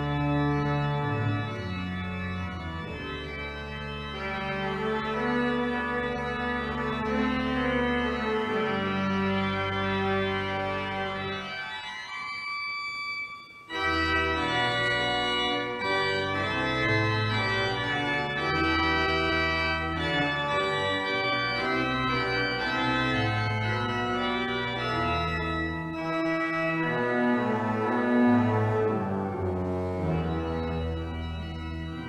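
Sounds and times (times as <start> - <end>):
pipe organ chords: 0.0 - 32.0.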